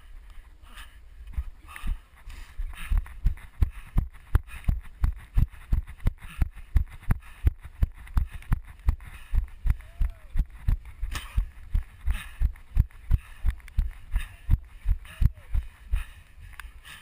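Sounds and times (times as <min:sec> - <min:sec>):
running footsteps on dirt: 0:00.0 - 0:17.0.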